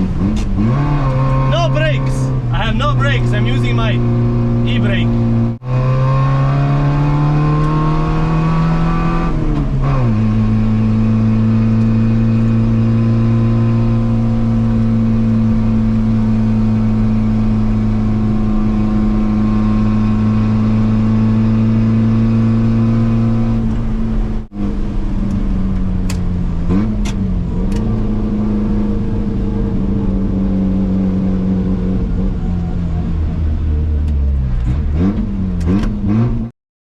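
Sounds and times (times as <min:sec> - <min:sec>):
car engine pulling: 0:00.0 - 0:36.5.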